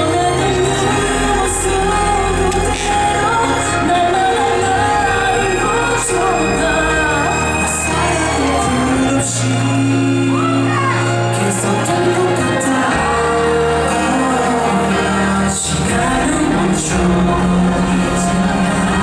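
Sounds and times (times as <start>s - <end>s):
held bass notes: 0.0s - 19.0s
instrumental backing: 0.0s - 19.0s
vocal trio singing: 0.0s - 19.0s.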